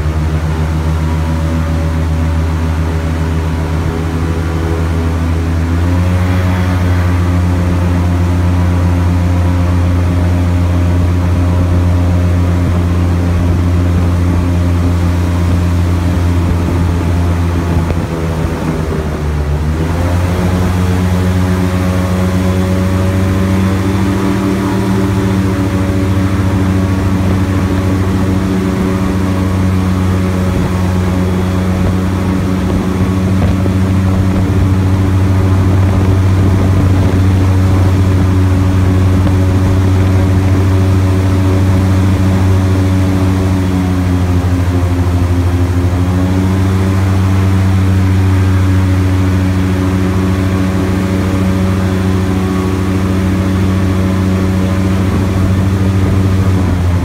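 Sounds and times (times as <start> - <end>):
airboat engine and propeller hum: 0.0 - 57.0.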